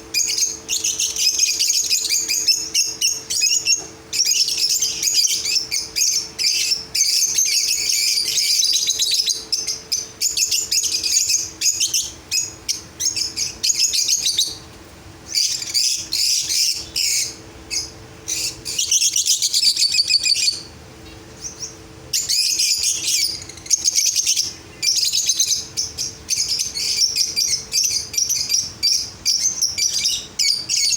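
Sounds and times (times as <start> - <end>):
cage birds chirping: 0.0 - 30.9
faint steady hum: 0.0 - 30.9.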